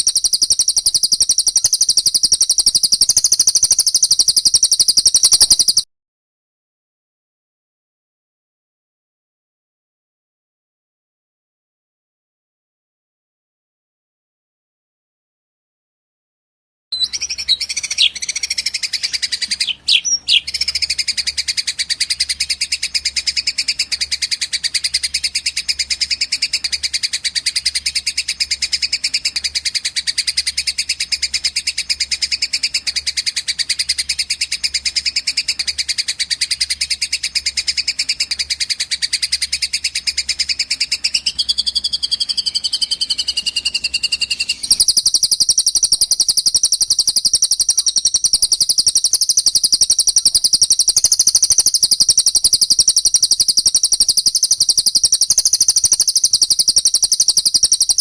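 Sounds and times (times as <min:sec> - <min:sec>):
lower bird trill: 0:00.0 - 0:05.9, 0:17.0 - 0:58.0
songbird high rapid trill: 0:00.0 - 0:05.9, 0:17.0 - 0:58.0.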